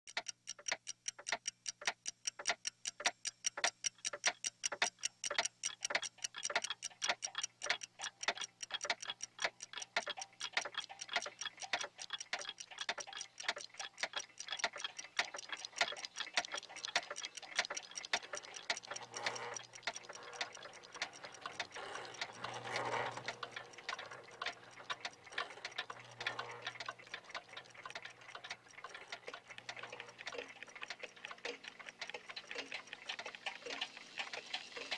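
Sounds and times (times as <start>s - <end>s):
clock ticking: 0.1s - 34.9s.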